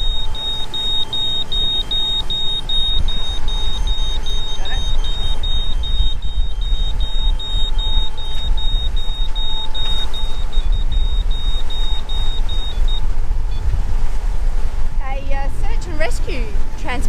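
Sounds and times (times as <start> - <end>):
high-pitched electronic alarm beeping: 0.0 - 13.7
steady low rumble: 0.0 - 17.0.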